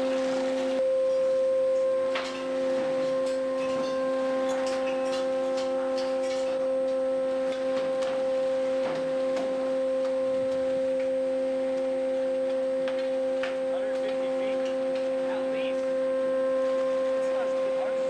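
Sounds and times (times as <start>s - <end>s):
deck machinery whine: 0.0s - 18.0s.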